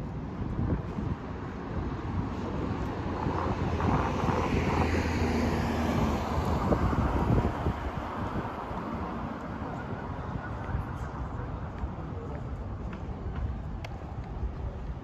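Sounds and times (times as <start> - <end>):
traffic running past: 0.0 - 15.0
wind buffeting microphone: 0.0 - 15.0.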